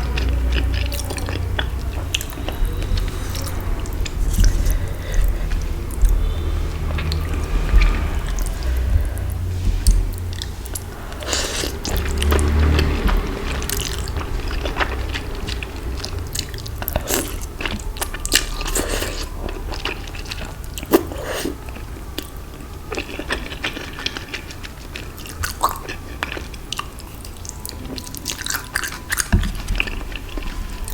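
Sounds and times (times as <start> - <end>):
chewing with crisp crunches: 0.0 - 30.9.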